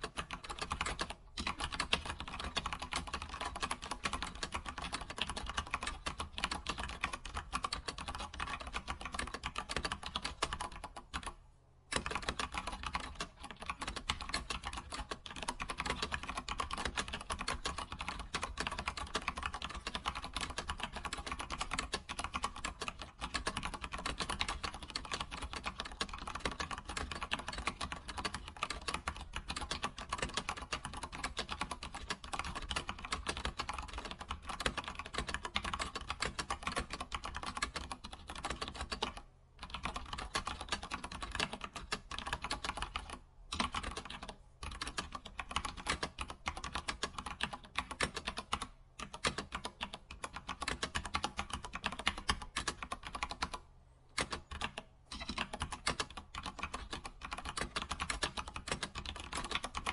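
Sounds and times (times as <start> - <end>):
computer keyboard typing: 0.0 - 59.9.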